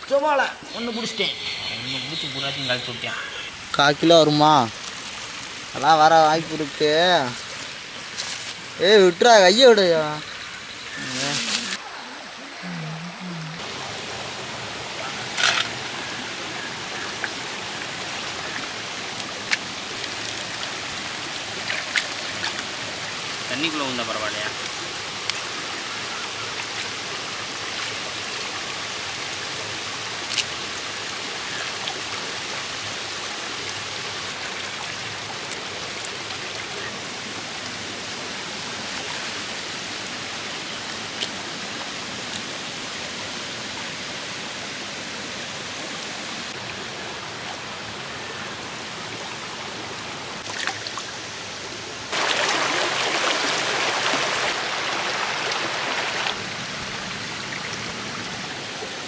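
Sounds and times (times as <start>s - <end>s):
stream rushing over rocks: 2.3s - 12.3s, 13.6s - 59.0s.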